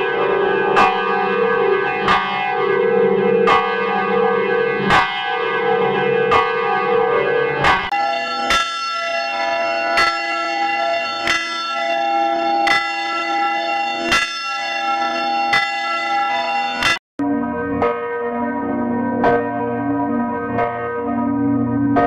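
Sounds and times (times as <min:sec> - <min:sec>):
church bell tolling: 0:00.0 - 0:22.0.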